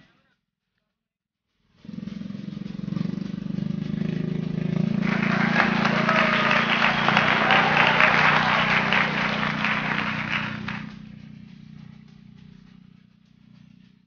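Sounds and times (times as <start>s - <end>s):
small boat engine running: 1.9s - 13.6s.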